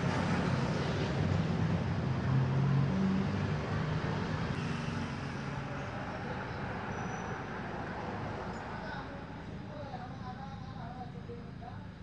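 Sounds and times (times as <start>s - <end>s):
road traffic rumble: 0.0s - 12.0s
vehicle engine hum: 0.0s - 12.0s.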